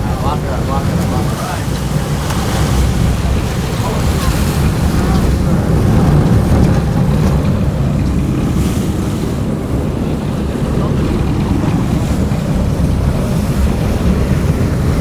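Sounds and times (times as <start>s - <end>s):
boat engine drone: 0.0s - 15.0s
water rushing: 0.0s - 15.0s
wind buffeting microphone: 0.0s - 15.0s.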